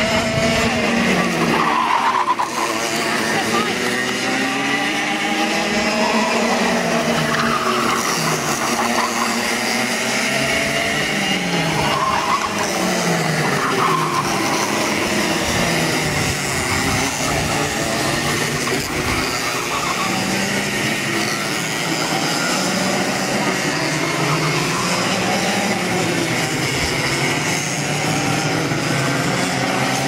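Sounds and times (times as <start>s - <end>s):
kart engines racing past: 0.0s - 30.0s.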